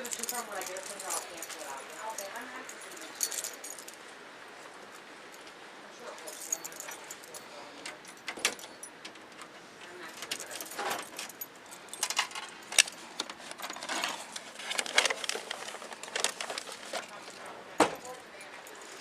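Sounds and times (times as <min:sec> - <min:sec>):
metallic jangling: 0:00.0 - 0:04.1, 0:05.3 - 0:19.0
rustling: 0:00.0 - 0:19.0.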